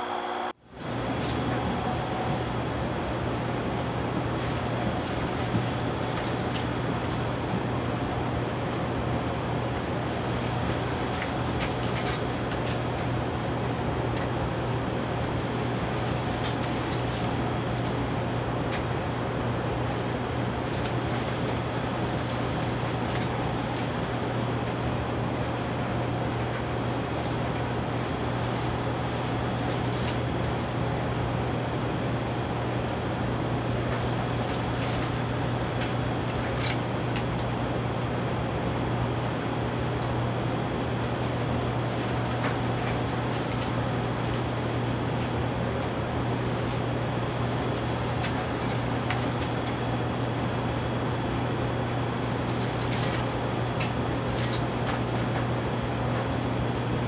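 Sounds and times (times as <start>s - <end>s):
fan hum and hiss: 0.0s - 57.0s.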